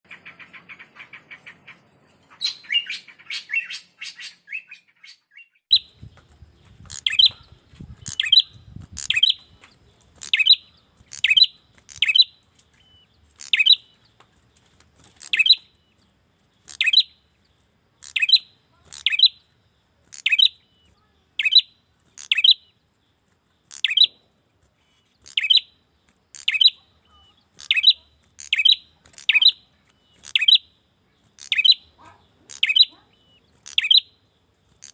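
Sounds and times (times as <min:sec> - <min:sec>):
bird calling with sharp chips: 0:00.1 - 0:22.9, 0:23.5 - 0:34.9.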